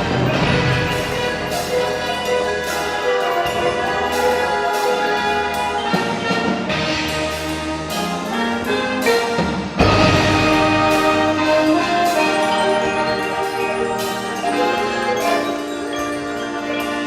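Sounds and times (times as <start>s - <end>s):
percussion hits: 0.0s - 17.0s
wind ensemble playing chords: 0.0s - 17.0s.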